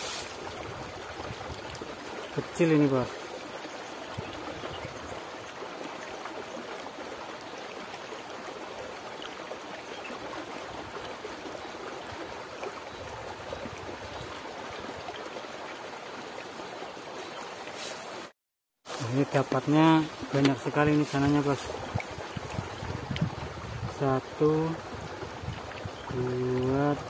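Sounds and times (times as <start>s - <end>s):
stream water rushing: 0.0s - 18.3s, 18.9s - 27.0s.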